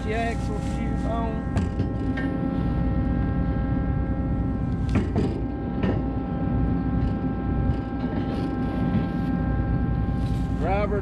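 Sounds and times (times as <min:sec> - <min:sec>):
whine: 0:00.0 - 0:11.0.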